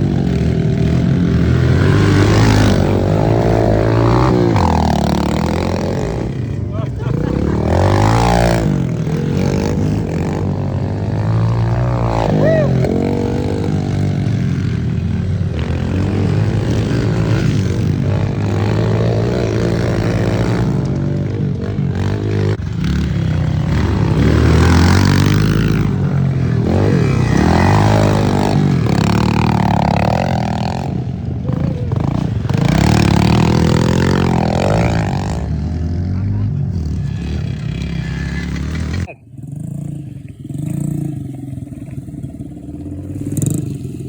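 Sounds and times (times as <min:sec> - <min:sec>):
pit bike engines revving: 0:00.0 - 0:44.0.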